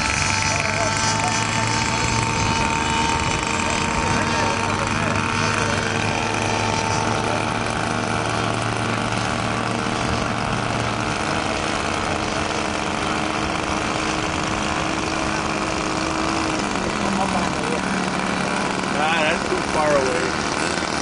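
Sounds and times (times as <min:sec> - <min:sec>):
model plane engine idling: 0:00.0 - 0:21.0.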